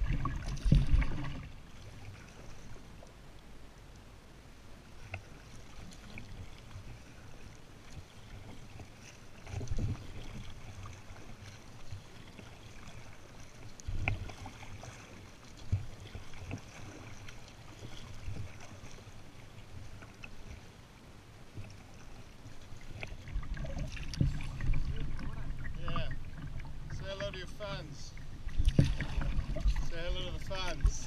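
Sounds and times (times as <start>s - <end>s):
paddle strokes in water: 0.0s - 31.0s.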